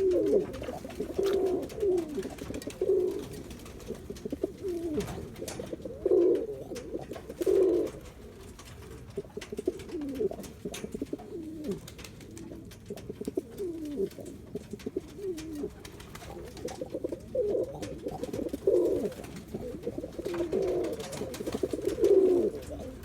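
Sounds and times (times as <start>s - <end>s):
pigeon cooing: 0.0s - 23.0s.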